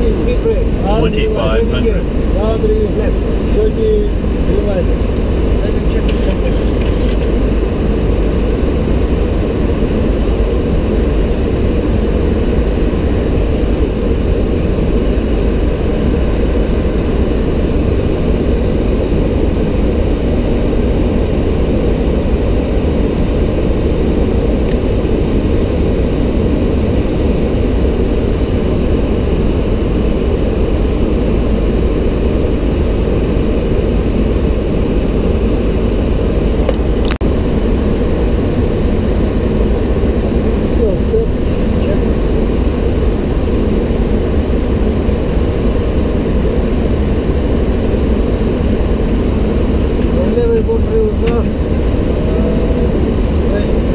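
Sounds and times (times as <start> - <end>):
airplane cockpit engine rush: 0.0 - 53.9.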